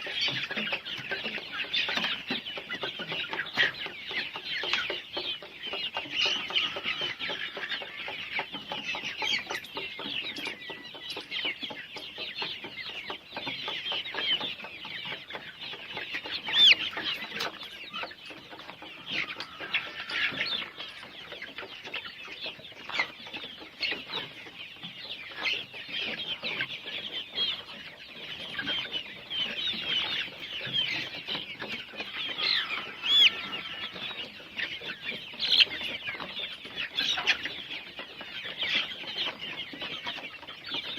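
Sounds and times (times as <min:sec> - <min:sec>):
chickens clucking and calling: 0:00.0 - 0:40.9.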